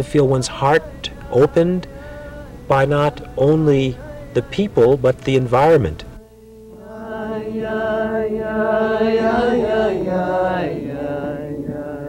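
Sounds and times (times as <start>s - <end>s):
slow chant in long notes: 0.0s - 12.0s.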